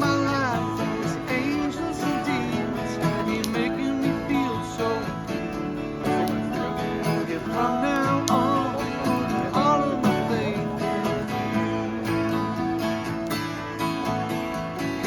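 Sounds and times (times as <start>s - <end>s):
strummed acoustic guitars: 0.0s - 15.0s.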